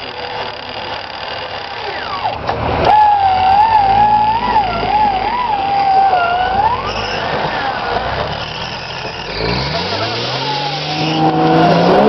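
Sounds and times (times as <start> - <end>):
electric winch motor whining: 0.0 - 12.0.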